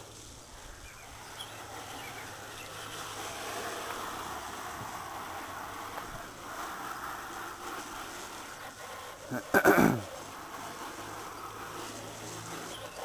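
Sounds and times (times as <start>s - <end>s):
water spraying onto motorcycle: 0.0s - 13.0s.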